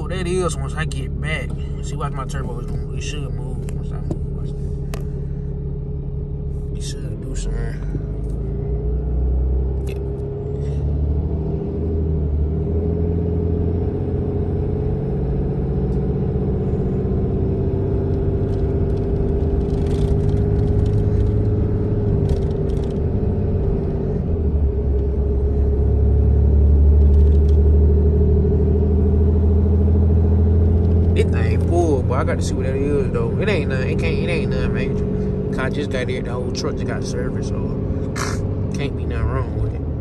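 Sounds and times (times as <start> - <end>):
truck engine droning from cab: 0.0 - 40.0.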